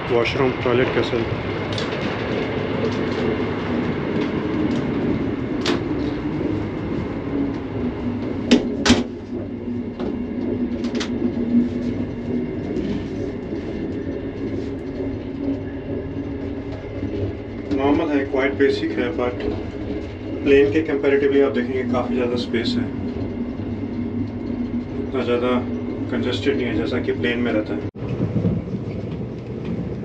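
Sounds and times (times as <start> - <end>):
train interior rumble and hum: 0.0 - 30.0.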